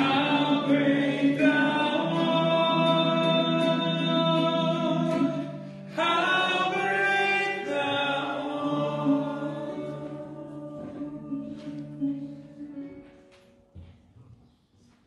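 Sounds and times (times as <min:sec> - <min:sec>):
congregation singing a hymn: 0:00.0 - 0:12.4.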